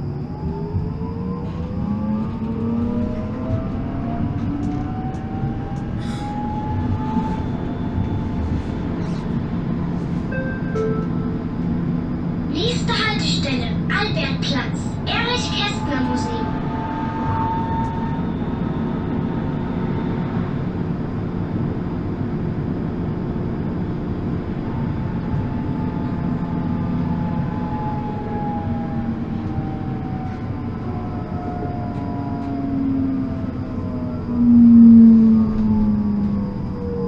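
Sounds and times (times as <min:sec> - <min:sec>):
tram wheels rumbling on rails: 0:00.0 - 0:37.0.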